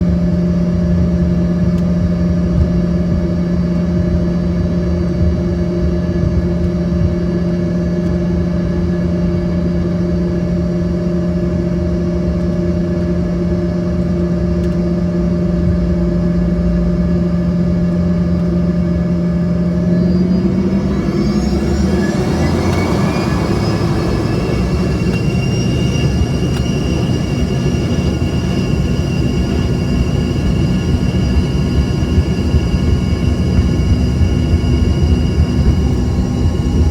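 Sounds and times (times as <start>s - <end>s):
jet engines rumbling and whining: 0.0s - 36.9s.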